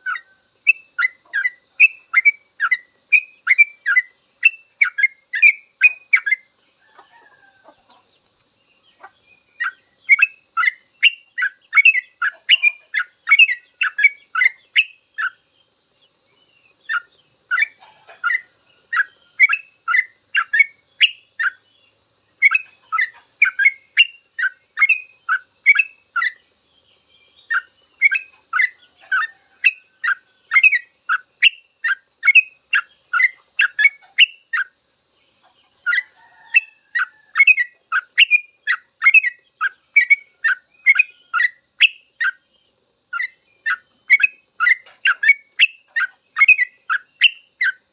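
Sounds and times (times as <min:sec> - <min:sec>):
bulbul singing rapid chirps: 0:08.7 - 0:47.9.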